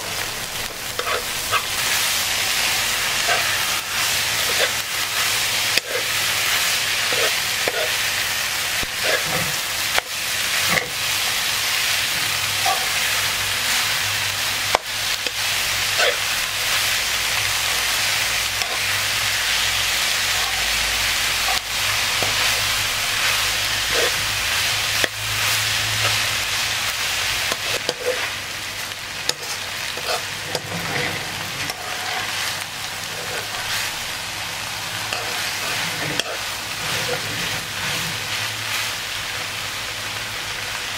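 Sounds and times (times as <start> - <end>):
filling sizzling in a pan: 0.0 - 40.9
spatula scraping a pan: 0.9 - 34.2, 34.9 - 39.0.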